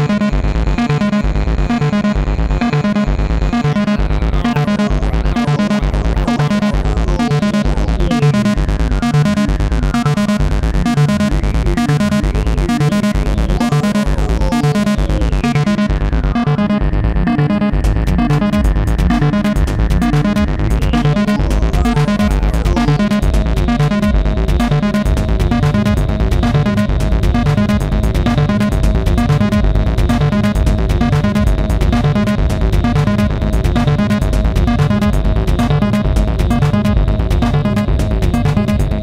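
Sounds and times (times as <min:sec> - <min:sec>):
synth tones with sliding pitches: 0:00.0 - 0:33.2
techno kick drum: 0:00.0 - 0:39.0
ticking percussion: 0:00.0 - 0:39.0.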